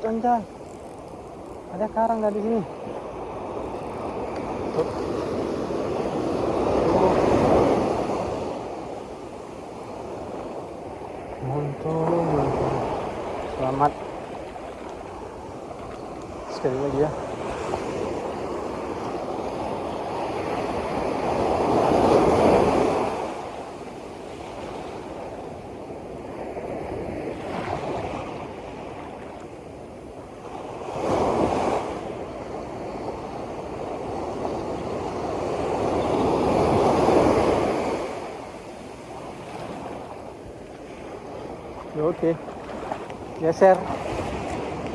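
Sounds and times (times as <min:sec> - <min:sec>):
sea waves washing in: 0:00.0 - 0:44.9.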